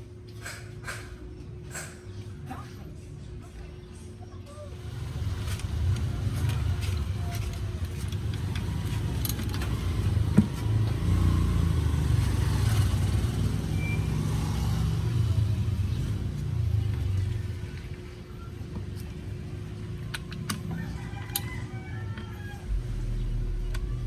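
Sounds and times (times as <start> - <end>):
vehicle engine rumbling: 4.7 - 24.0.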